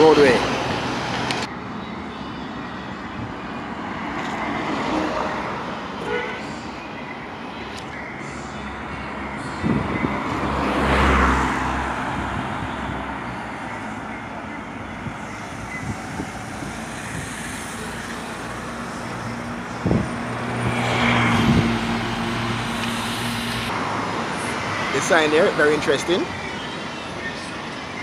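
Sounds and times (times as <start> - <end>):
road traffic hum: 0.0 - 28.0
vehicles passing close: 0.0 - 28.0.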